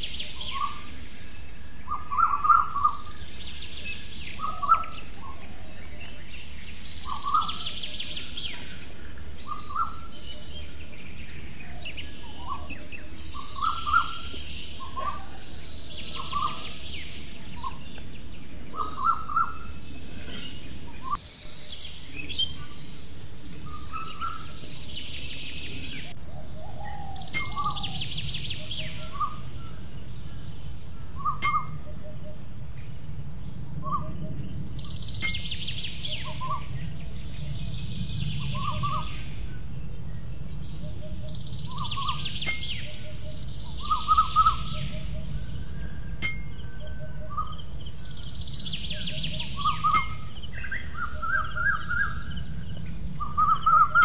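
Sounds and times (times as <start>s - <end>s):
birds chirping: 0.0s - 54.0s
background hiss: 6.0s - 54.0s.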